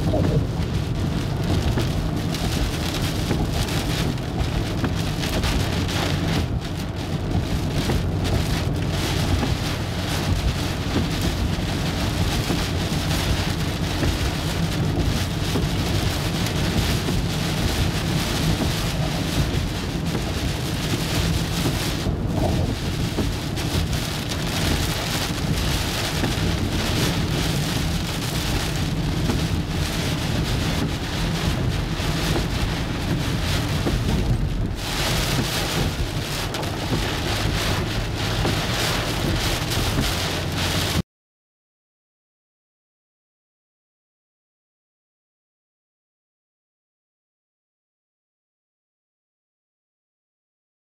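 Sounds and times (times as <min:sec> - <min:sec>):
rain on car windshield: 0:00.0 - 0:41.0
tyre and road rumble: 0:00.0 - 0:41.0.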